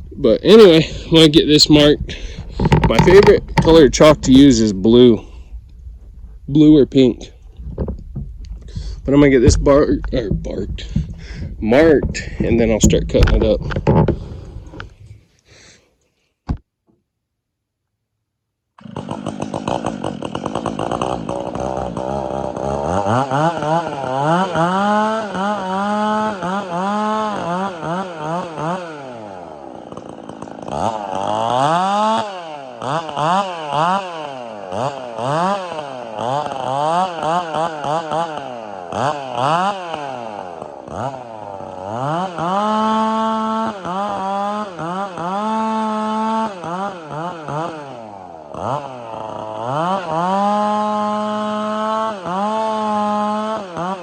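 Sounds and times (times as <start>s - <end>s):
chainsaw revving: 0.0s - 5.6s, 6.4s - 15.8s, 18.8s - 54.0s.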